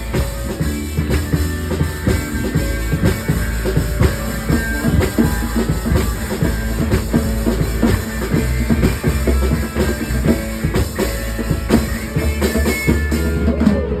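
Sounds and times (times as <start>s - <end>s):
drum kit steady beat: 0.0s - 14.0s
rock band playing: 0.0s - 14.0s.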